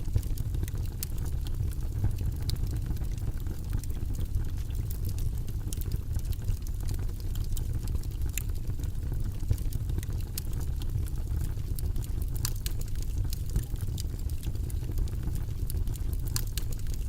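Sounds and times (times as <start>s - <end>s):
low rumbling white noise: 0.0s - 17.0s.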